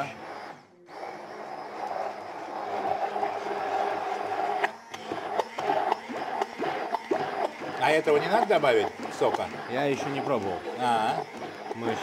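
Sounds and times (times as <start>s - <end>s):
blender motor running: 0.0s - 12.0s.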